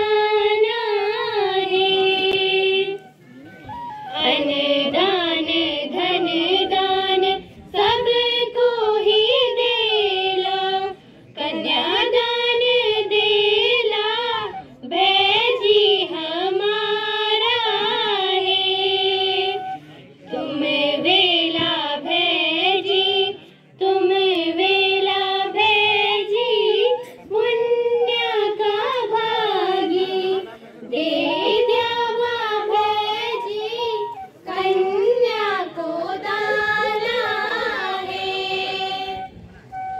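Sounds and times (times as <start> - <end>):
girls singing folk song over pa: 0.0 - 3.2, 4.0 - 39.4.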